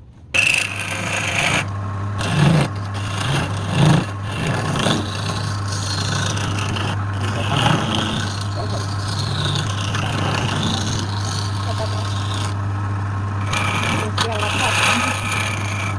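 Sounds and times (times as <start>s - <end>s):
turning tool scraping wood: 0.3s - 12.6s, 13.4s - 15.9s
wood lathe motor humming: 0.4s - 15.9s.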